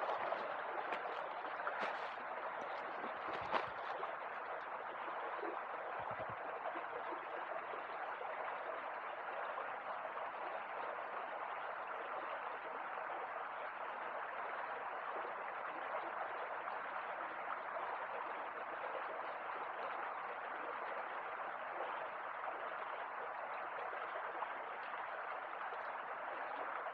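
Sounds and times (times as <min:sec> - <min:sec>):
river water flowing: 0:00.0 - 0:26.9.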